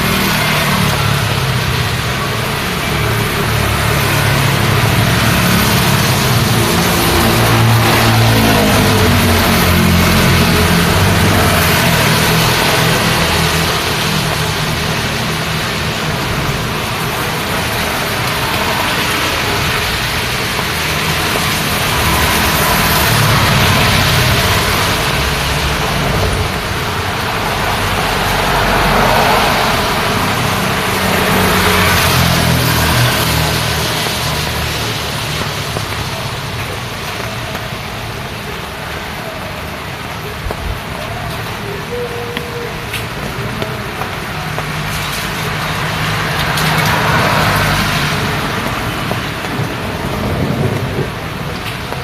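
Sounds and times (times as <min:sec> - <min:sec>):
passing traffic rumble: 0:00.0 - 0:52.0
rain hissing on wet road: 0:00.0 - 0:52.0.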